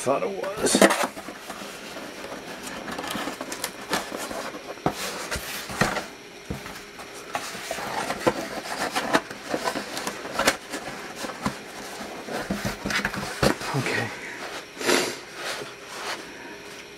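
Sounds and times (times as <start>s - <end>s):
cardboard box scraping and rustling: 0.6s - 16.4s.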